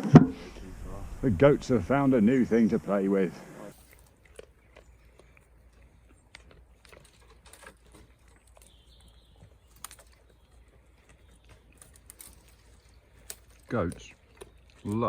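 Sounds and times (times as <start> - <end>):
goats chewing wood and foliage: 0.2 - 15.0.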